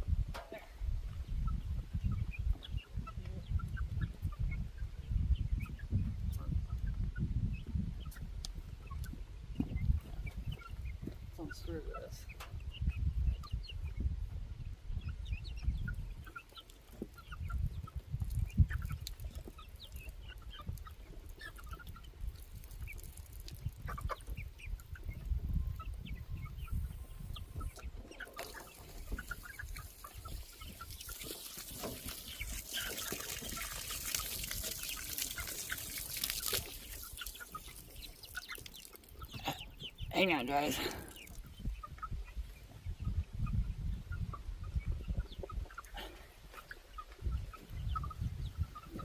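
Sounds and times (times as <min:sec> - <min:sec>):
chickens clucking: 0:00.1 - 0:49.0.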